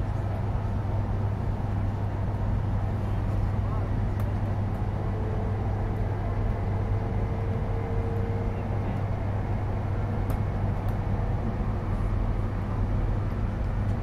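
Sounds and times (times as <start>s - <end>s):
train interior running rumble: 0.0s - 14.0s.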